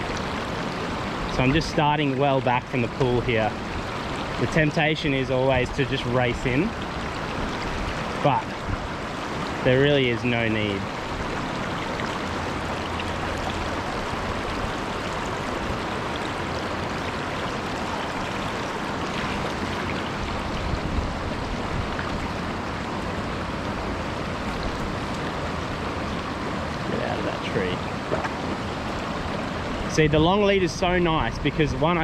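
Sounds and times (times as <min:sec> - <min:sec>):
stream rushing water: 0:00.0 - 0:32.0.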